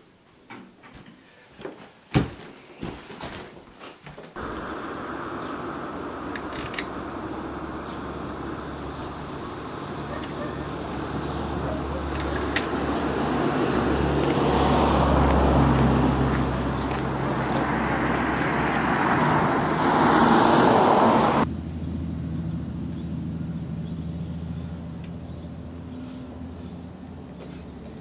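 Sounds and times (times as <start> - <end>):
steady outdoor background: 4.2 - 28.0
cars passing: 4.4 - 28.0.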